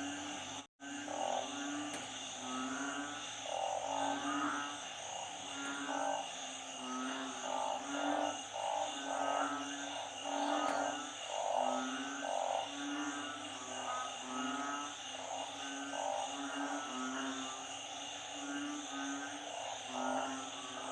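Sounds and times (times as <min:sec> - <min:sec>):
frogs calling: 0:00.0 - 0:20.9.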